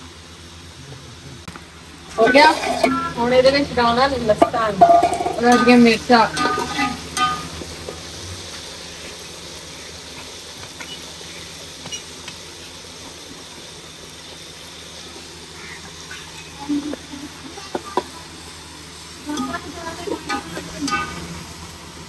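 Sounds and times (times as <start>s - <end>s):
onions sizzling in a pot: 0.0s - 22.0s.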